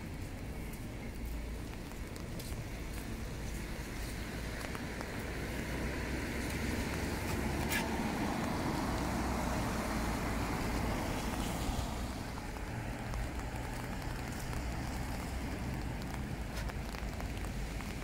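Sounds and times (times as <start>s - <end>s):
car tyres hissing on wet street: 0.0s - 18.0s
rain falling: 0.0s - 18.0s.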